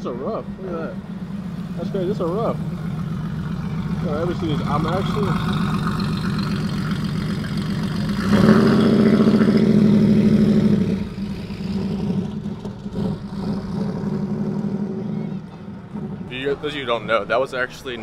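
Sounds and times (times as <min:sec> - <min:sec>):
sports car engine pulling away: 0:00.0 - 0:18.0.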